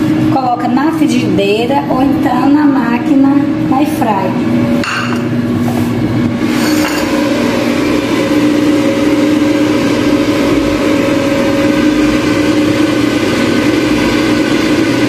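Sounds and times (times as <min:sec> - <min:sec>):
air fryer fan humming: 0:00.0 - 0:15.0.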